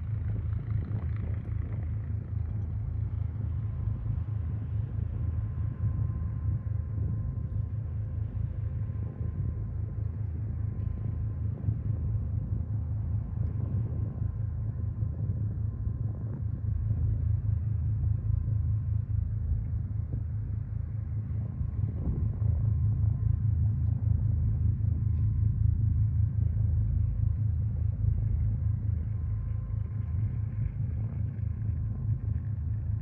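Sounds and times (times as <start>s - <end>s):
faint steady whine: 0.0s - 33.0s.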